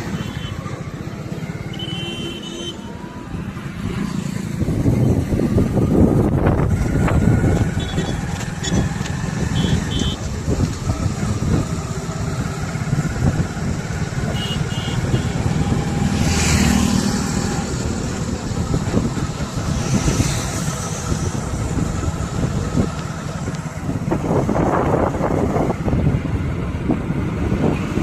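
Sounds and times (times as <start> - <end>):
vehicle engines passing by: 0.0 - 28.0.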